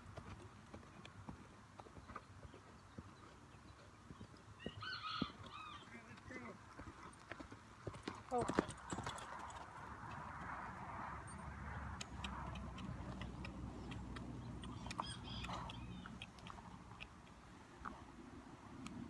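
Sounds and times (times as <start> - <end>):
horse hooves on dirt: 0.0 - 19.0.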